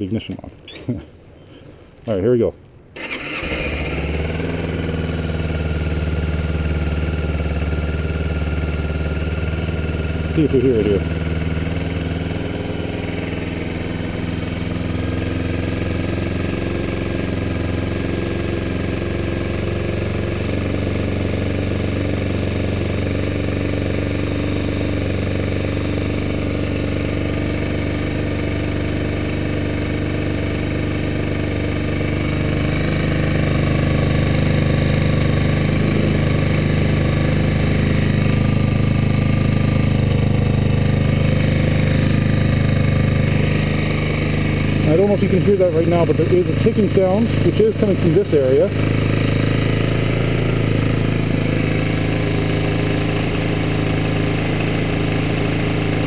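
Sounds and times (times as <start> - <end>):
light engine ticking: 3.0 - 56.0
motorcycle engine idling: 3.0 - 56.0.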